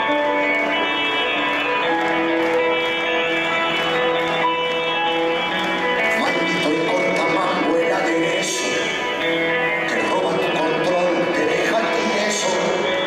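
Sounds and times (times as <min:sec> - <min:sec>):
rock band playing: 0:00.0 - 0:13.0
sustained guitar chords: 0:00.0 - 0:13.0.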